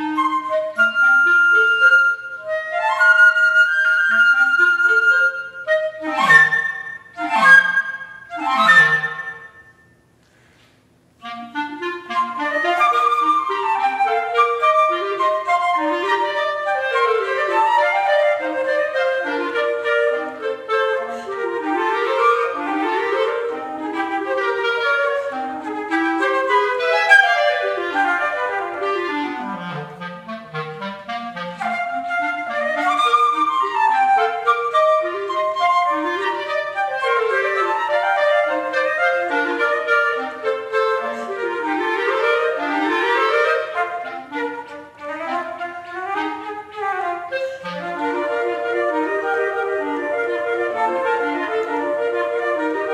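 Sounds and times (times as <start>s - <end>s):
clarinet running lines: 0.0s - 10.0s, 11.2s - 52.9s
flute running lines: 0.0s - 10.0s, 11.2s - 52.9s.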